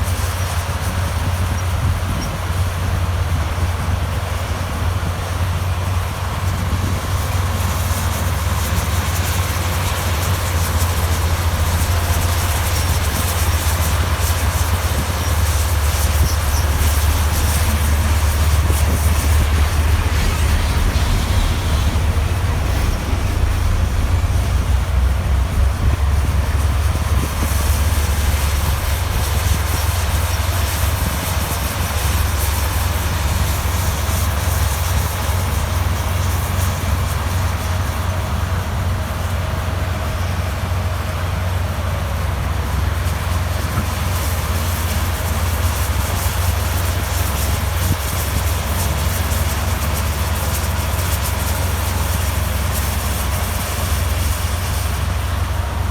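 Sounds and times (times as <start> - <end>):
diesel machinery engine drone: 0.0 - 55.9.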